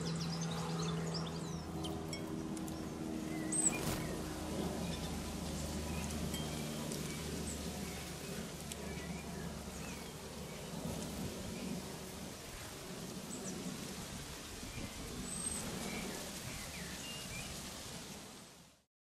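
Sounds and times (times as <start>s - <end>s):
songbirds chirping: 0.0s - 18.7s.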